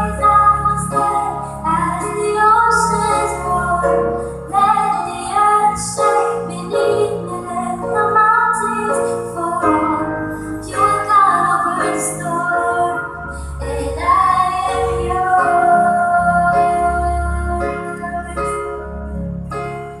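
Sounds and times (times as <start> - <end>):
woman singing: 0.0 - 19.0
keyboard accompaniment: 0.0 - 20.0.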